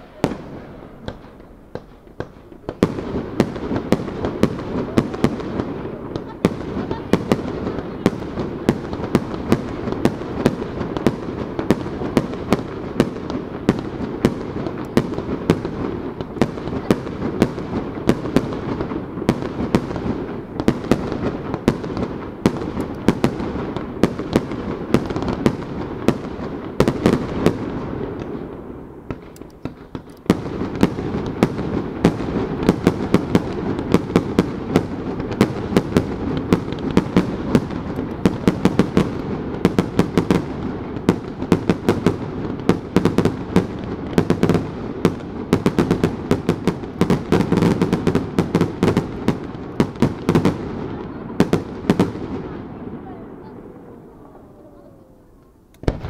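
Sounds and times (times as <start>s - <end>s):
fireworks bursts: 0.0s - 56.0s.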